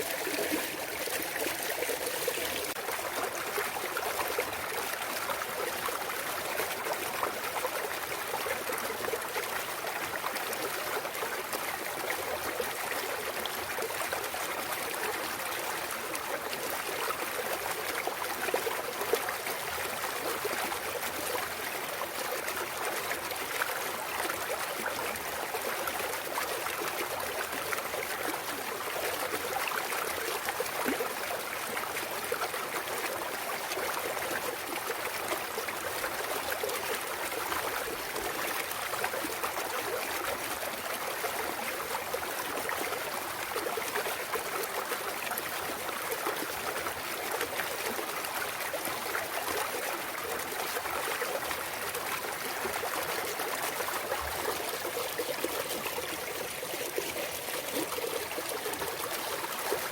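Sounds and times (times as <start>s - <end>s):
mountain stream babbling over rocks: 0.0s - 59.9s.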